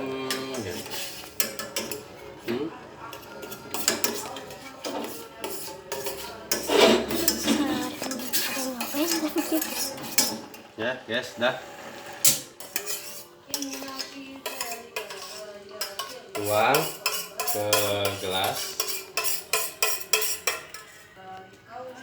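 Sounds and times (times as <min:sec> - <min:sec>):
metal utensil scraping a pot: 0:00.0 - 0:02.4, 0:03.0 - 0:10.8, 0:11.7 - 0:21.2.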